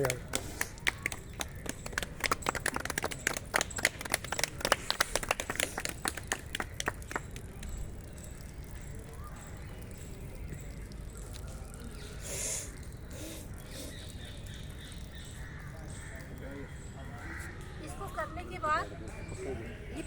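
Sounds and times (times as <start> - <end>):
water dripping and splattering: 0.0 - 20.0.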